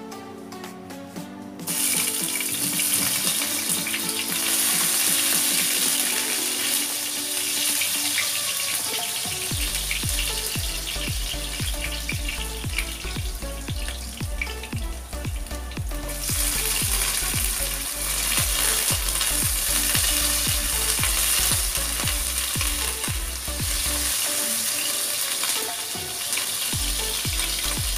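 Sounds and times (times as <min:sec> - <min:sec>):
garlic sizzling in hot oil: 0:01.7 - 0:13.0, 0:16.2 - 0:27.9.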